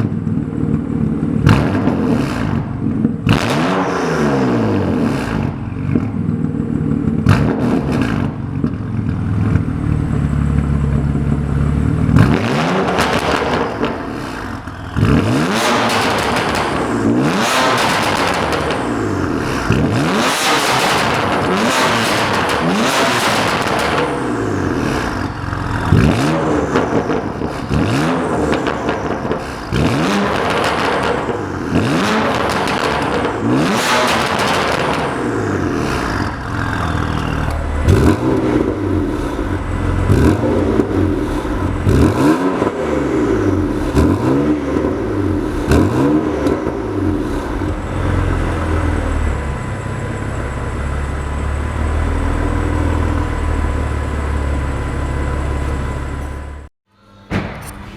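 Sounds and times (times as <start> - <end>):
car engine revving in blips: 0.0 - 56.7.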